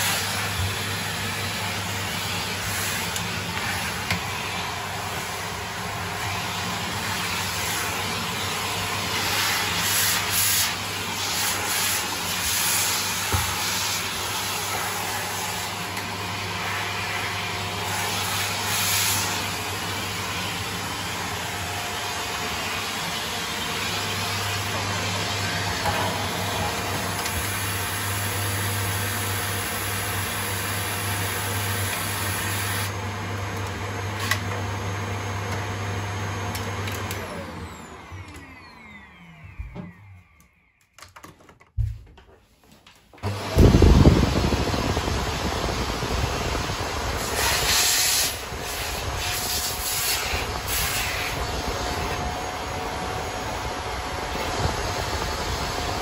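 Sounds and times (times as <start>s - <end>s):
vacuum cleaner running: 0.0s - 40.9s, 43.1s - 56.0s
vacuum motor winding down: 0.0s - 40.9s, 43.2s - 56.0s.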